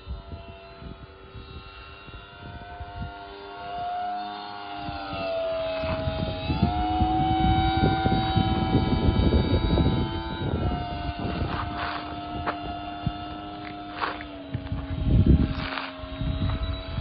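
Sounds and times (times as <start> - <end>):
model plane motor whining: 0.0 - 17.0
wind rumbling on microphone: 0.0 - 17.0.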